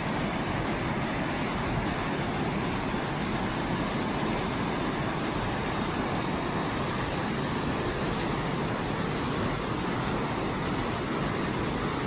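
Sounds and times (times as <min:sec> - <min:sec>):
waterfall and rapids rushing: 0:00.0 - 0:12.0.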